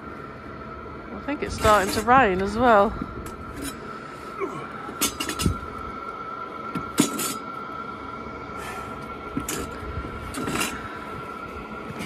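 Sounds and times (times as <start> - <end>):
high whine of diesel heaters: 0.0 - 12.0.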